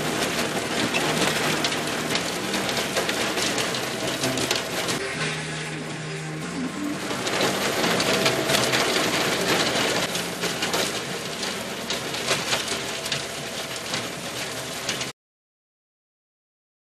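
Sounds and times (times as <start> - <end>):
diesel tractor running under load: 0.0 - 15.1
rotary tiller churning soil: 0.0 - 15.1.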